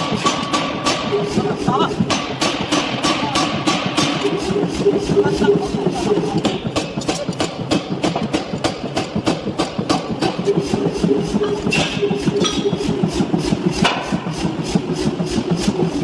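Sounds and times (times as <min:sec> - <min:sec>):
power hammer striking: 0:00.0 - 0:16.0
steady machine hum: 0:00.0 - 0:16.0.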